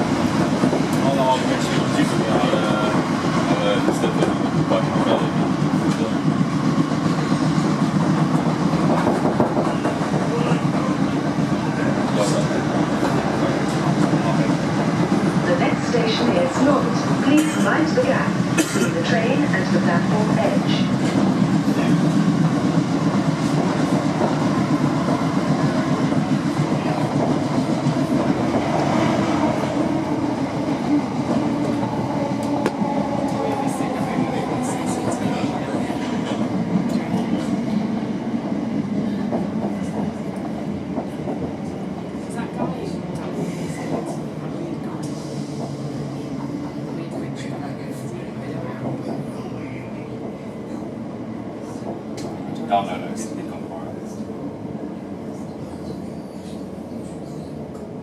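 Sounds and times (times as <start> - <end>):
train running noise inside carriage: 0.0 - 58.0.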